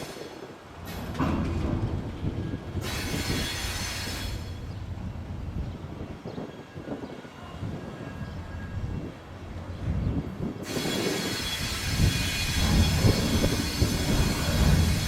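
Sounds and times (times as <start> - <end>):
railway coaches rumbling on track: 0.0 - 15.0.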